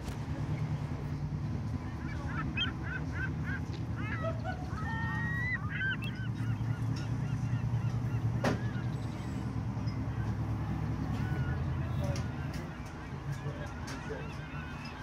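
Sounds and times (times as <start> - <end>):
waterbird calling: 1.8 - 15.0.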